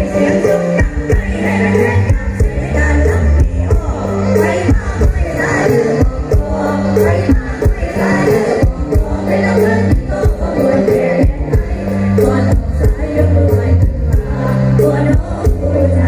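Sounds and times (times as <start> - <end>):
live band music: 0.0 - 16.0
person singing: 0.0 - 16.0.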